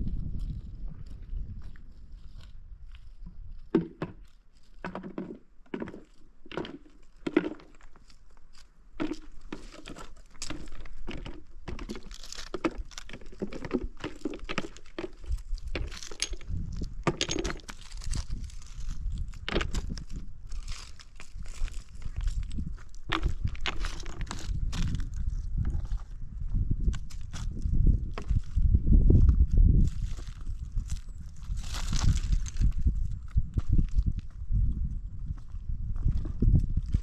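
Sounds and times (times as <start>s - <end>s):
footsteps crunching on rough ground: 0.0s - 37.0s.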